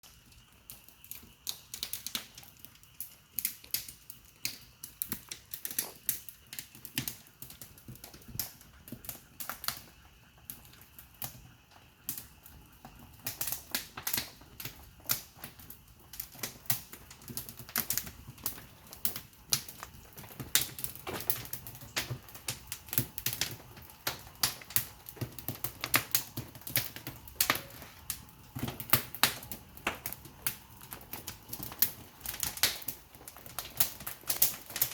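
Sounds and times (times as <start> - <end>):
firewood crackling and popping: 0.0 - 34.9.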